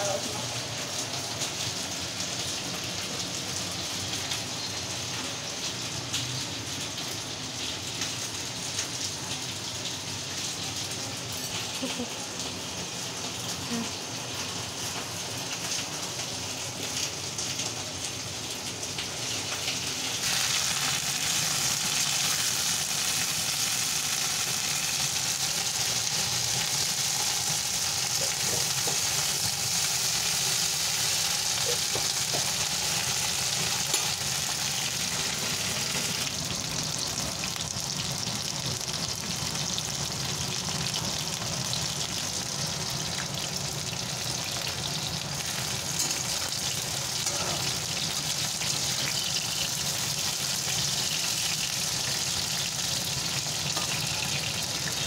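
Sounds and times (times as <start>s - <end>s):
okra sizzling in a wok: 0.0s - 55.0s.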